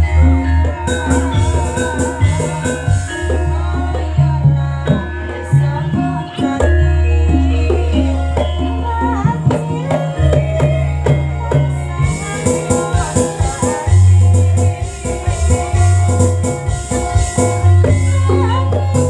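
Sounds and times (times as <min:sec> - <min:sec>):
deep bass notes: 0:00.0 - 0:19.0
percussion strikes: 0:00.0 - 0:19.0
wavering melody line: 0:00.0 - 0:19.0.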